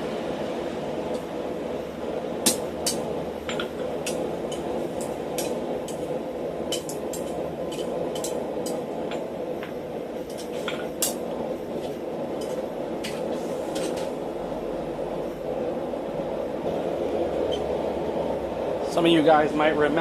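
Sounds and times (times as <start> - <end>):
forge air rushing: 0.0 - 20.0.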